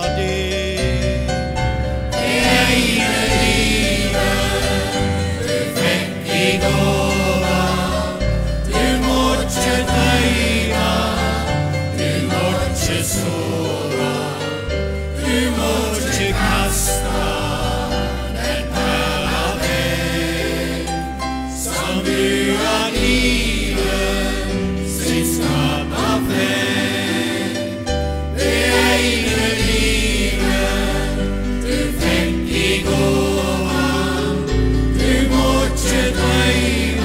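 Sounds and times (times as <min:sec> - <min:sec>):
choir singing a hymn: 0:00.0 - 0:37.0
piano accompaniment: 0:00.0 - 0:37.0.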